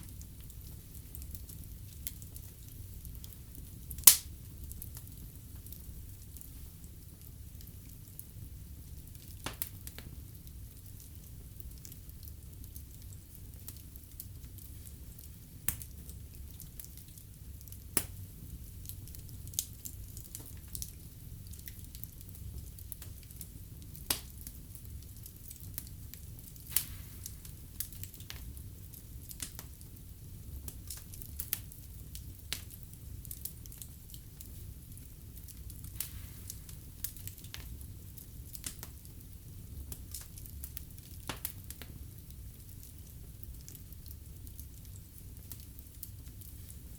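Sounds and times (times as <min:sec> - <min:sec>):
low rumble of flames: 0:00.0 - 0:46.9
sharp pops of fire: 0:00.0 - 0:46.9
wood fire crackling: 0:00.0 - 0:46.9.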